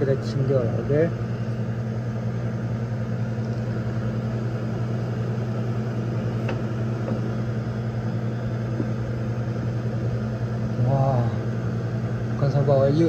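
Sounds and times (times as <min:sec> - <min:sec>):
refrigeration compressor humming: 0:00.0 - 0:13.0.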